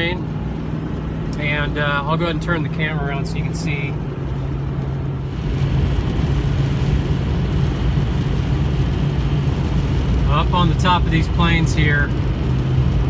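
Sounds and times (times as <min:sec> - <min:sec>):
engine hum inside cab: 0:00.0 - 0:13.0
rain noise: 0:00.0 - 0:13.0
road noise: 0:00.0 - 0:13.0.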